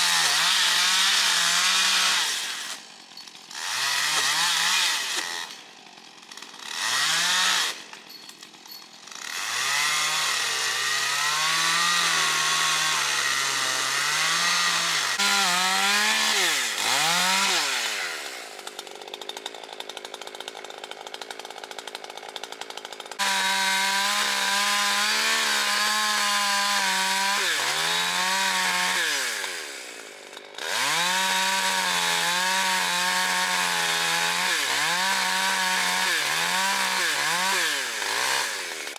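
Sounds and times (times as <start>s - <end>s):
chainsaw revving and cutting: 0.0s - 38.9s.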